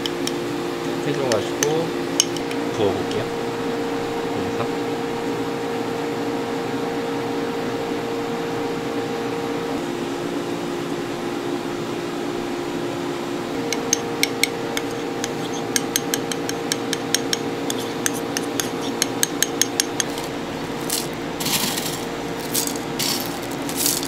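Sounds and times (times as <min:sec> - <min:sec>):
kitchen machinery hum: 0:00.0 - 0:24.0.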